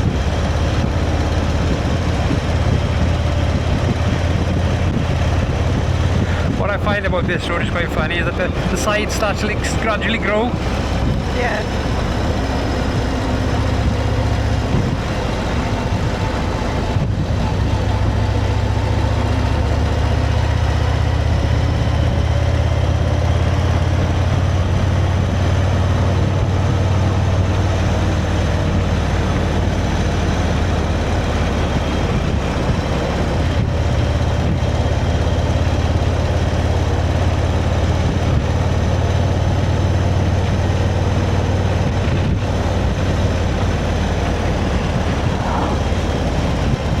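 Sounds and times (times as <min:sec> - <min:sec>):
motorcycle engine running: 0:00.0 - 0:47.0
wind noise on microphone: 0:00.0 - 0:47.0.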